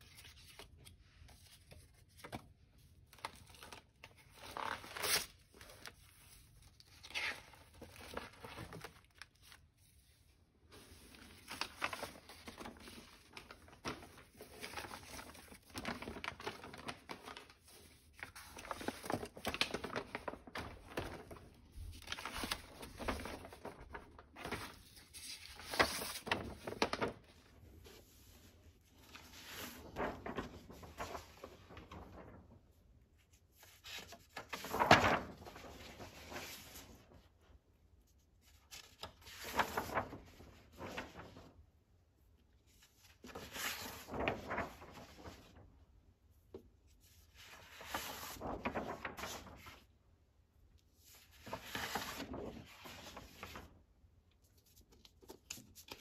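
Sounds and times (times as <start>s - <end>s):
paper rustling and crinkling: 0.0s - 41.8s, 42.6s - 50.0s, 51.0s - 56.0s.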